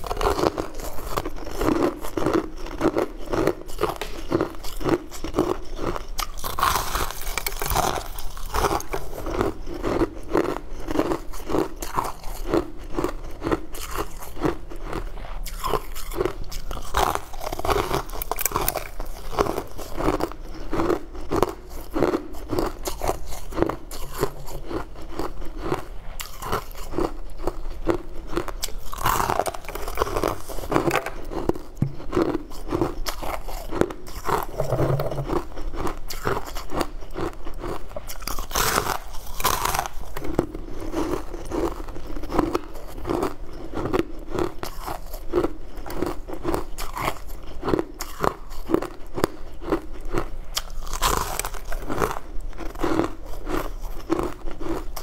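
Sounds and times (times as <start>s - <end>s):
crisp crunches of frozen chunks: 0.0s - 55.0s.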